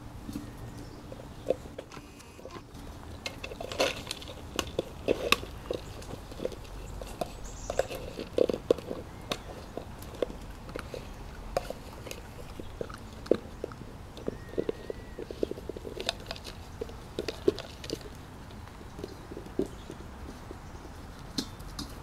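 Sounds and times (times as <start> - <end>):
puppies biting plastic container: 0.3 - 22.0.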